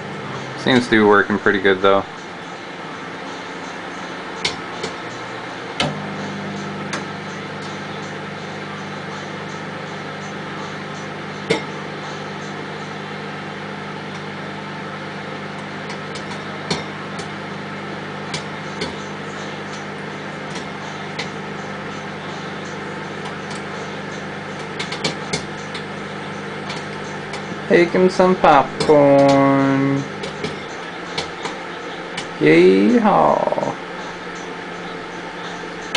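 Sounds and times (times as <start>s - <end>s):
microwave oven humming: 0.0s - 35.9s.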